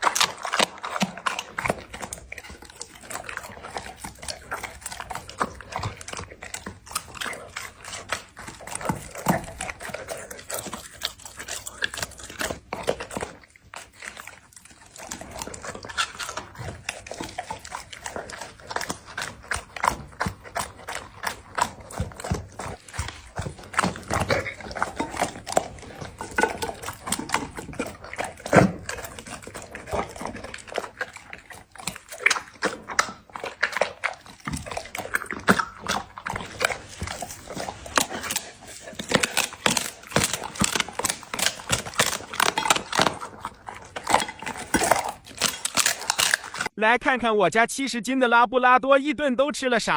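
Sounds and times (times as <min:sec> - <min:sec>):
bone crunching: 0:00.0 - 0:46.7
dog chewing wetly: 0:00.0 - 0:46.8.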